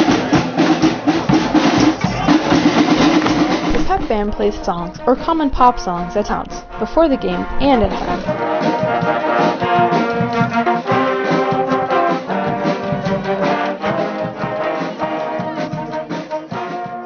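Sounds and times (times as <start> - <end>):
pep band brass playing: 0.0 - 17.0.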